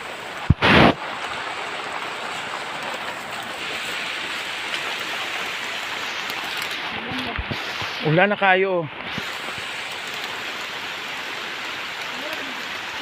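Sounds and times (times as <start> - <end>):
water hissing: 0.0 - 13.0.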